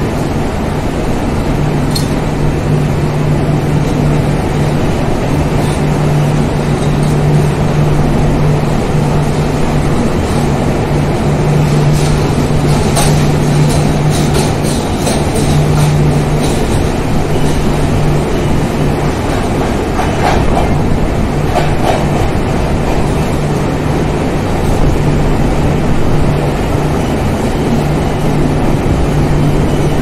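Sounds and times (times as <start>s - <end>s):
low hum: 0.0s - 30.0s
train wheels rumbling on rails: 0.0s - 30.0s.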